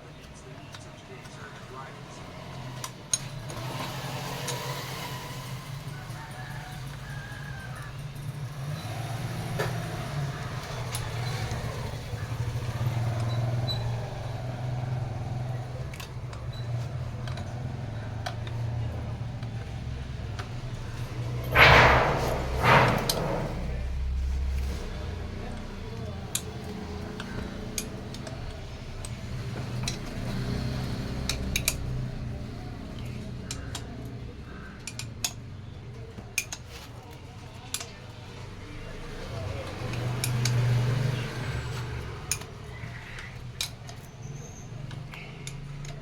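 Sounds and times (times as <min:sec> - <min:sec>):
motorcycle engine idling: 0:00.7 - 0:46.0.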